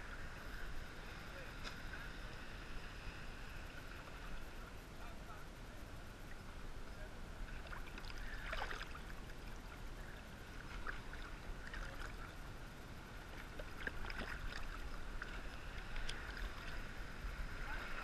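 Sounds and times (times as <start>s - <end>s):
muffled water lapping and splashing: 0.0s - 18.0s.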